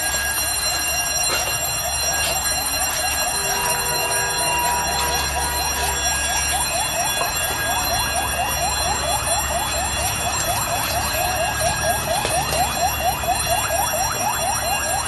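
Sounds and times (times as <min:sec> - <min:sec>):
car alarm whooping: 0:00.0 - 0:15.0.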